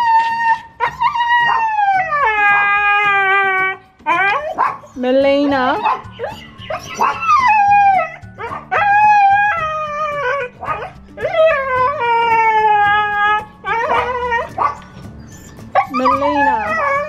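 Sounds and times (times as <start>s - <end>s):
puppy howling: 0.0s - 5.0s, 5.6s - 17.0s
puppy yelping: 0.0s - 17.0s.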